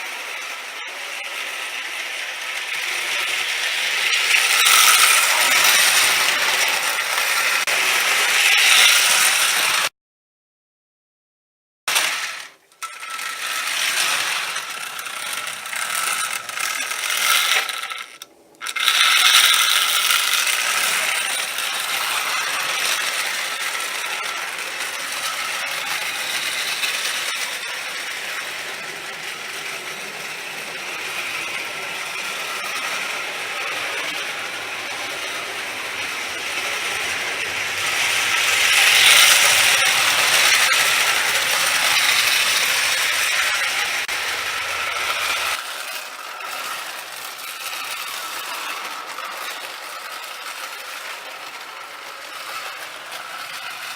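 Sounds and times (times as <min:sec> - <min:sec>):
toy train motor whirring: 0:00.0 - 0:09.9, 0:11.9 - 0:53.9
wheels clattering on rails: 0:00.0 - 0:09.9, 0:12.0 - 0:53.9.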